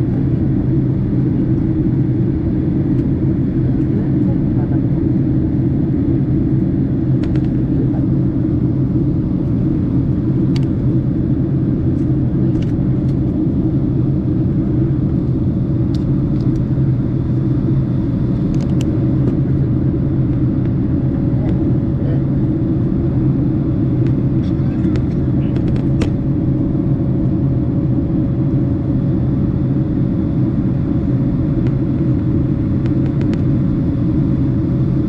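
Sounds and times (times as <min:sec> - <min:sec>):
airliner cabin engine rumble: 0:00.0 - 0:35.0.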